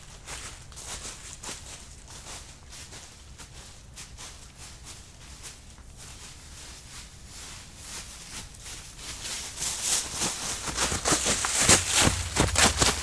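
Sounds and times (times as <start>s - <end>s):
footsteps on dry leaves: 0.1s - 13.0s.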